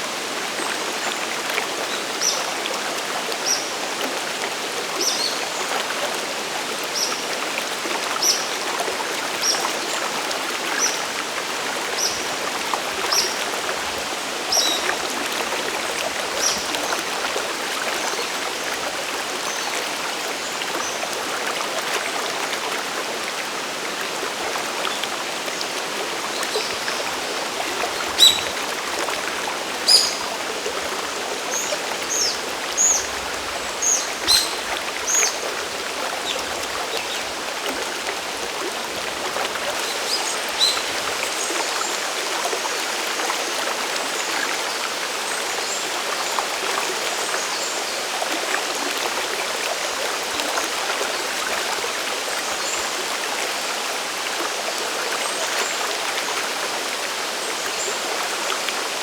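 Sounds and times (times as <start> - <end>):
river and waterfall rushing: 0.0 - 59.0.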